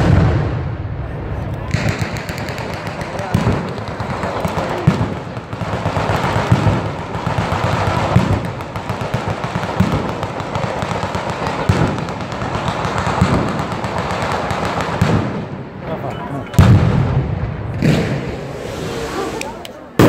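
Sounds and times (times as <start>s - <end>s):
heavy firecracker bangs: 0.0s - 15.8s, 16.6s - 20.0s
firecrackers crackling: 0.0s - 20.0s.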